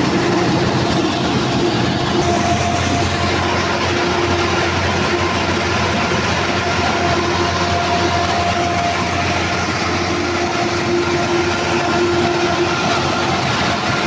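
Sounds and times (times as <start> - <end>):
diesel engine clattering: 0.0 - 14.0.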